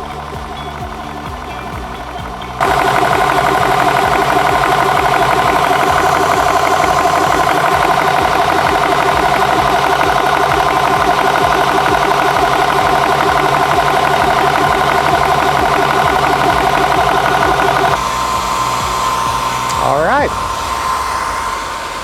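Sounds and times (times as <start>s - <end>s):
air compressor pulsing: 0.0s - 22.0s
cooling fan running: 0.0s - 22.0s.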